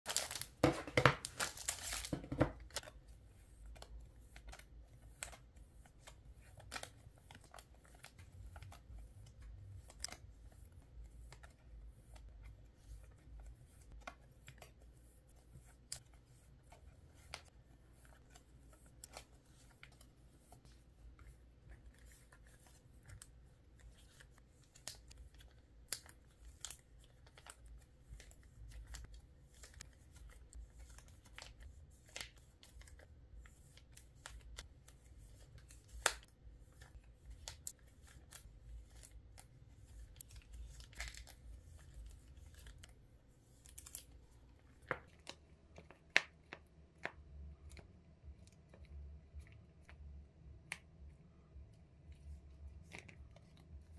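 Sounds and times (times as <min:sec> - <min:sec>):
cards and plastic sleeves handled: 0:00.0 - 0:53.9.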